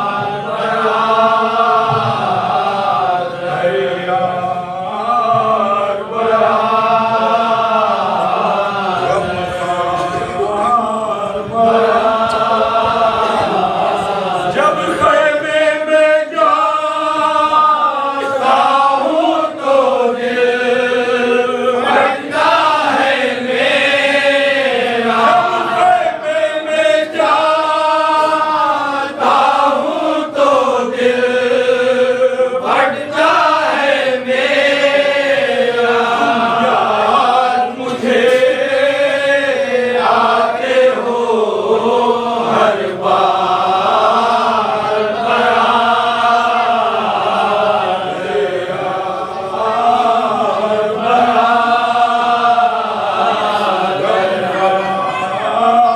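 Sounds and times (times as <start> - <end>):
men chanting without instruments: 0.0 - 55.9.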